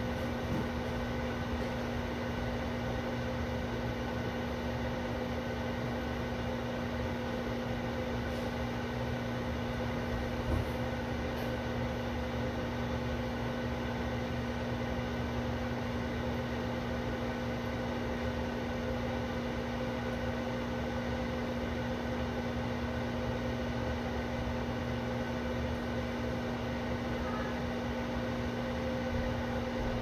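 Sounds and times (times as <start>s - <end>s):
microwave oven humming: 0.0s - 30.0s.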